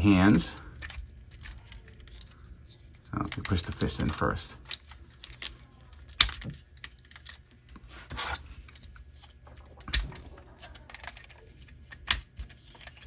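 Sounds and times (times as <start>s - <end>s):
scraping rustle: 0.2s - 13.0s
plastic toy parts clicking and snapping: 0.3s - 13.0s.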